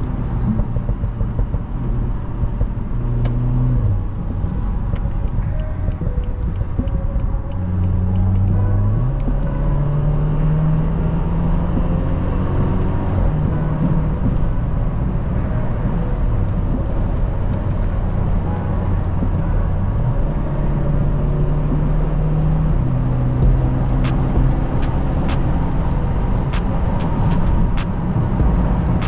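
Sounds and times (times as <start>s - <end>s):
car engine droning while driving: 0.0s - 29.0s.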